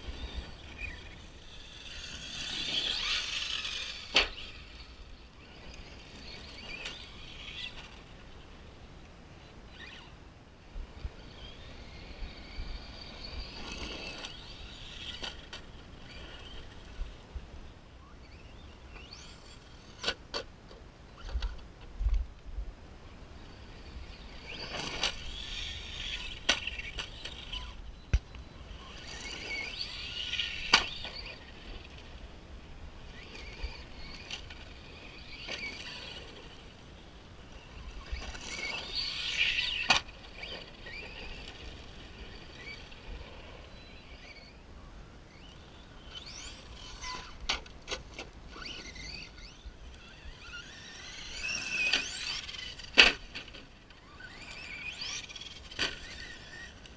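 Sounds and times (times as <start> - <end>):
rc truck motor and tyres: 0.0 - 22.4, 23.0 - 56.9.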